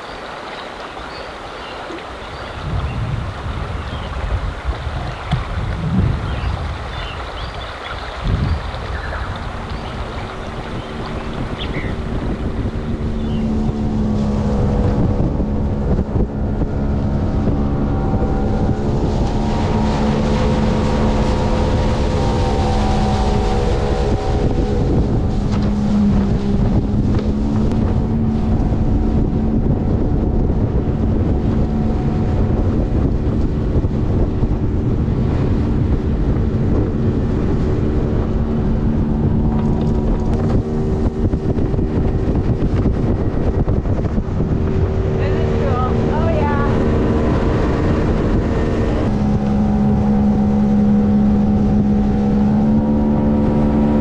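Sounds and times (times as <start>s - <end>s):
boat engine running at speed: 0.0s - 54.0s
wind noise on microphone: 0.8s - 54.0s.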